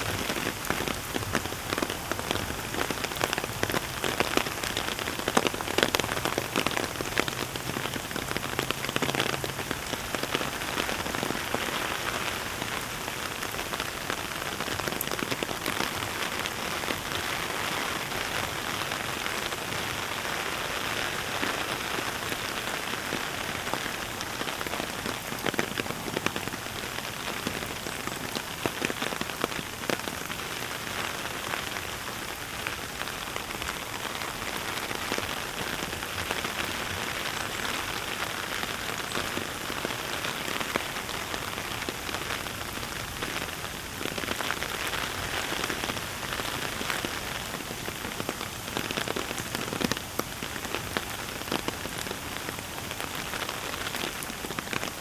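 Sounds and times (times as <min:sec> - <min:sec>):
heavy rain hissing: 0:00.0 - 0:55.0
raindrops ticking on surfaces: 0:00.0 - 0:55.0.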